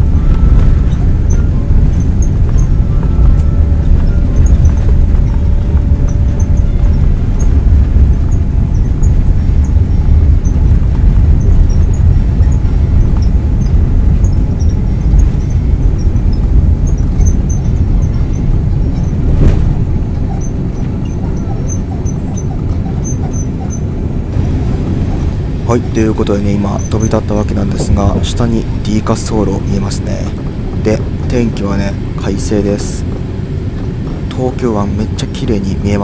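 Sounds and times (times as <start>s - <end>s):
jet engines roaring: 0.0s - 36.0s
landing gear rumbling: 0.0s - 36.0s.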